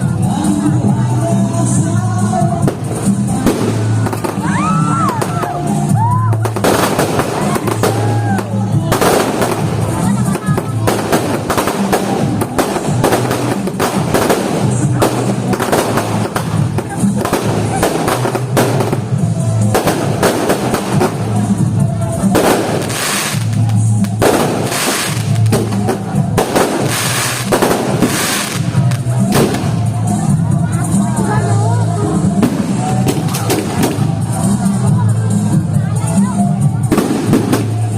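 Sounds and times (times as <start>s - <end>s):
fireworks bursting and crackling: 0.0s - 37.9s
music playing: 0.0s - 37.9s.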